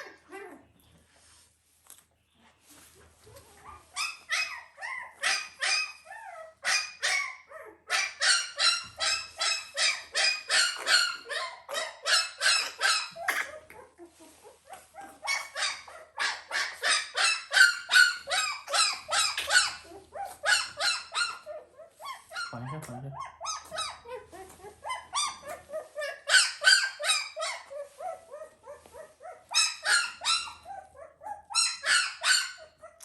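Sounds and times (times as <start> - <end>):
puppy yelping: 3.3 - 33.0.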